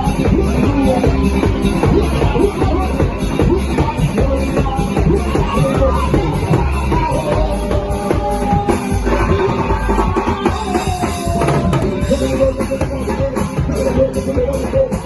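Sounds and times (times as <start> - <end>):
band playing music: 0.0 - 15.0.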